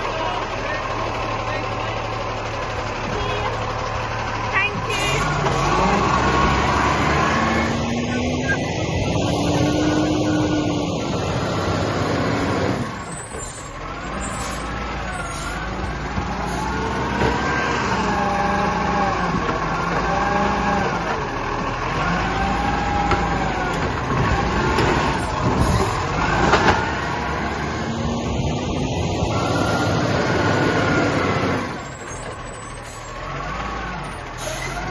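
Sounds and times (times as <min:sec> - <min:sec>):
garbage truck engine running: 0:00.0 - 0:34.9.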